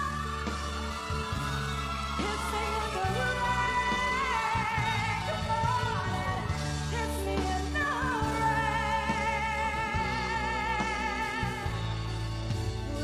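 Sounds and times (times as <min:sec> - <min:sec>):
band accompaniment: 0:00.0 - 0:13.0
woman singing a pop ballad: 0:00.0 - 0:13.0.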